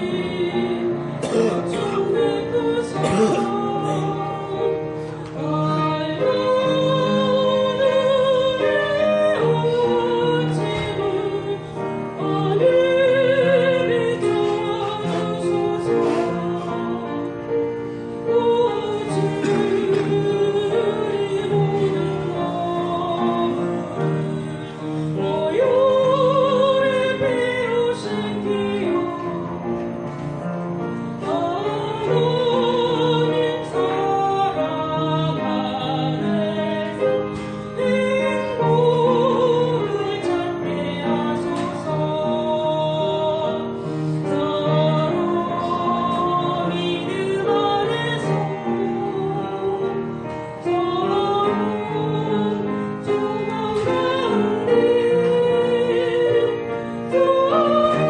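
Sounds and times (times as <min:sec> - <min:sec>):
woman singing operatic hymn: 0:00.0 - 0:30.1, 0:31.0 - 0:58.0.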